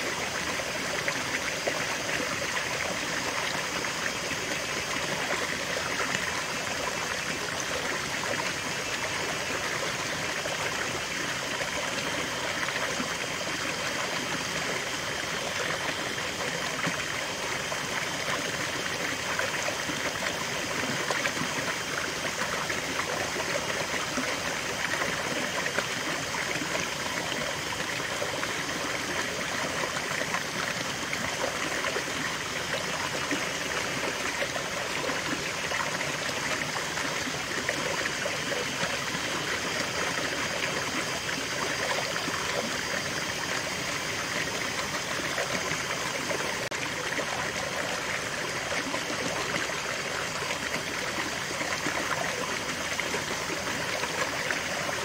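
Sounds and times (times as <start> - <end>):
stream water over cascade: 0.0 - 55.0.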